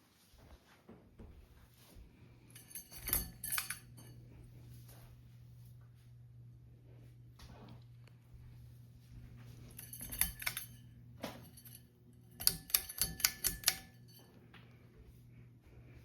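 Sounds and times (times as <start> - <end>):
ceiling fan humming: 0.0 - 16.0.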